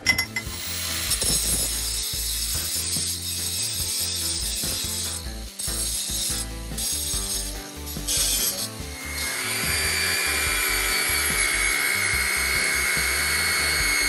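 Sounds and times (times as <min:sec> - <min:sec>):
angle grinder grinding metal: 0:00.0 - 0:14.0.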